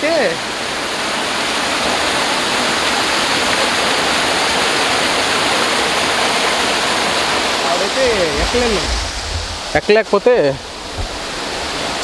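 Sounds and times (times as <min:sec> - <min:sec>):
stream water pouring over rocks: 0:00.0 - 0:12.0.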